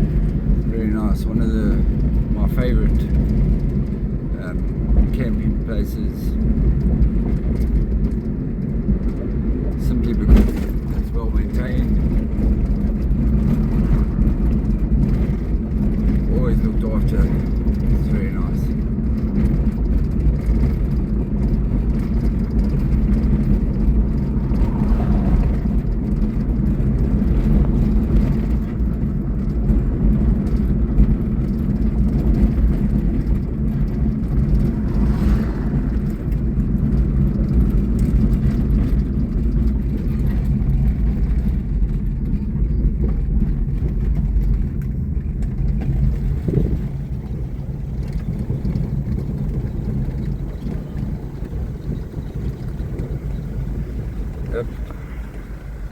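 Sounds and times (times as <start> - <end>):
truck engine and road noise: 0.0 - 55.9.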